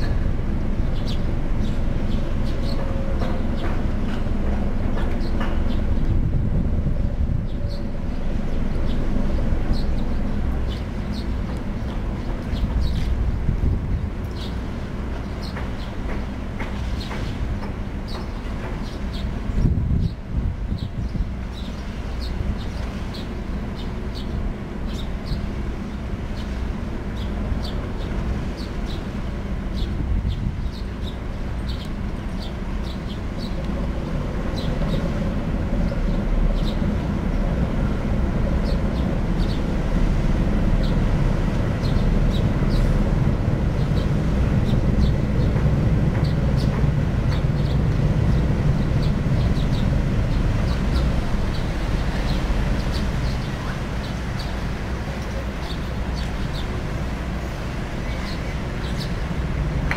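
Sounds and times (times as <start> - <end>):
ship diesel engines droning: 0.0 - 59.9.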